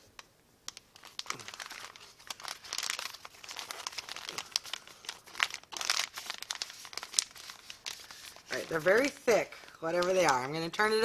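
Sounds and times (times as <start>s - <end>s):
plastic sachets crinkling: 0.1s - 11.0s.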